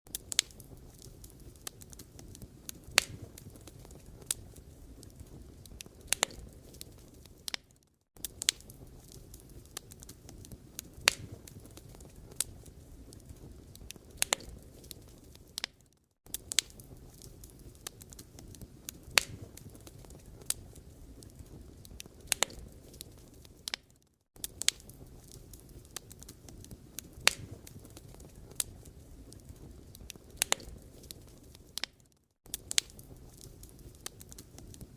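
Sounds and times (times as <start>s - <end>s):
firewood burning and crackling: 0.1s - 34.9s.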